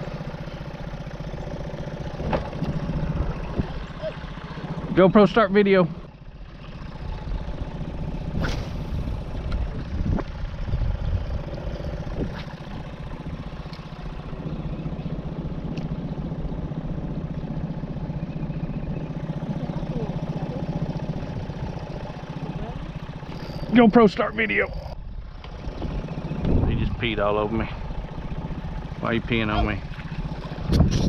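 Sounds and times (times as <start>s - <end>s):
boat motor running: 0.0s - 31.0s.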